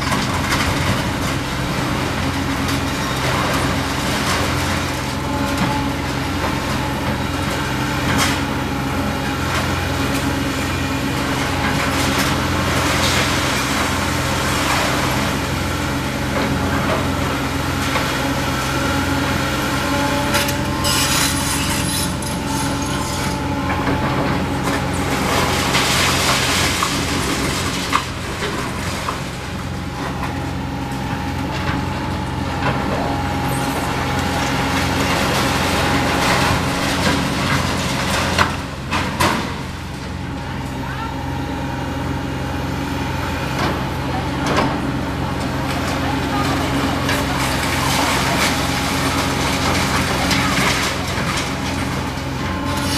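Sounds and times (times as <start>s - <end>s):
debris crashing and scraping: 0.0s - 41.0s, 43.6s - 52.9s
excavator diesel engine running: 0.0s - 52.9s.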